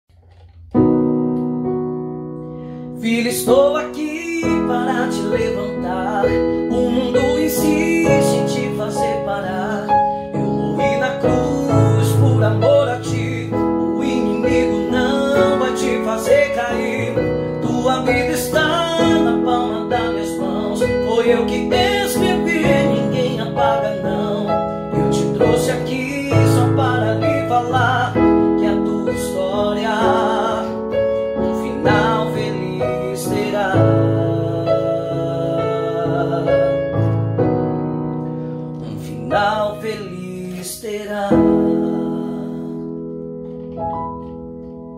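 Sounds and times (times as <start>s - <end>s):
piano chords on keyboard: 0.0s - 44.9s
man singing slow melody: 2.8s - 37.2s, 38.2s - 43.8s.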